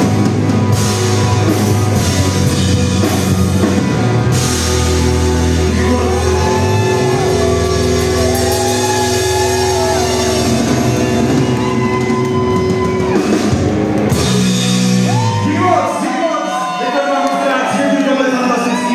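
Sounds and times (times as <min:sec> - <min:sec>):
bass guitar: 0:00.0 - 0:16.0
drum kit: 0:00.0 - 0:16.0
electric guitars: 0:00.0 - 0:17.4.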